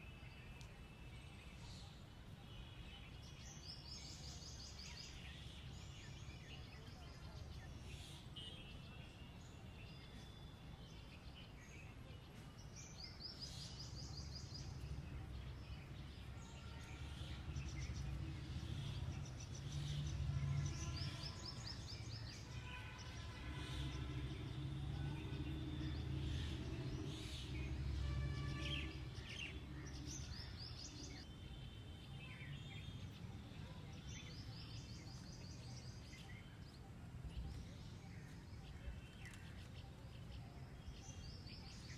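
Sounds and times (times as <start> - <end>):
birds singing and calling: 0.0 - 41.9.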